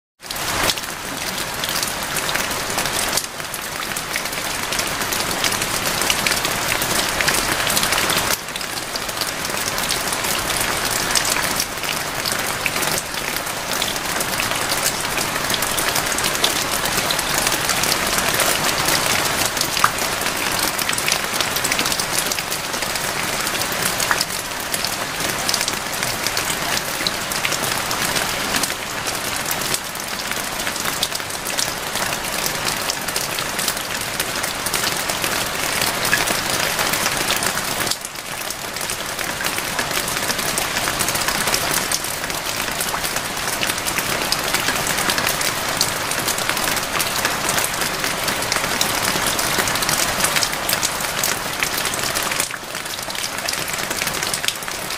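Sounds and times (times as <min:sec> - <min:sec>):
steady rain: 0:00.2 - 0:54.9.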